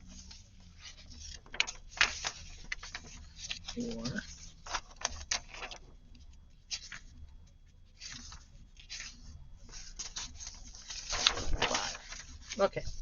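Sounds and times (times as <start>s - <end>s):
paper rustling and sliding: 0.0s - 7.2s, 7.8s - 13.0s.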